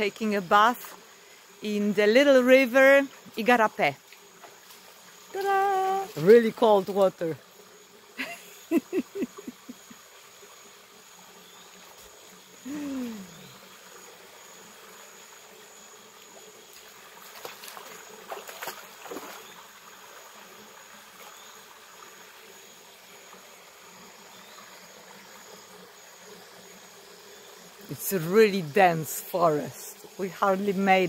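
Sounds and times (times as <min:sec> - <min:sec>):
background hiss: 0:00.0 - 0:31.0
high insect chorus: 0:00.0 - 0:31.0.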